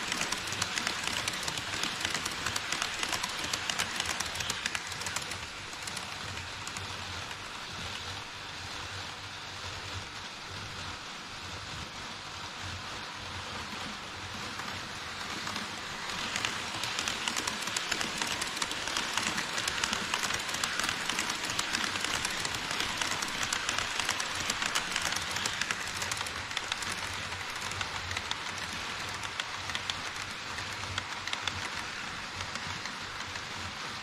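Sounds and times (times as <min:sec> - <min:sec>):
model trains rattling on track: 0:00.0 - 0:08.9, 0:13.3 - 0:34.0.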